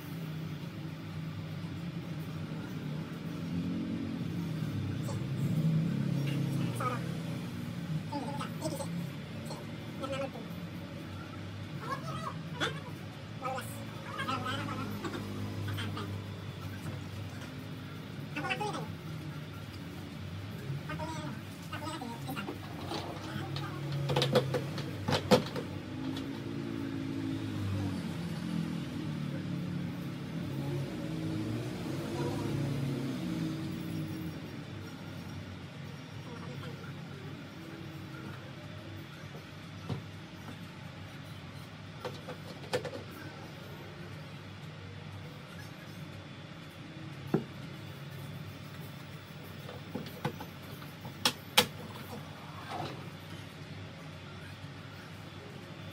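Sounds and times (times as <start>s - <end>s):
vehicle engines humming: 0.0s - 55.9s.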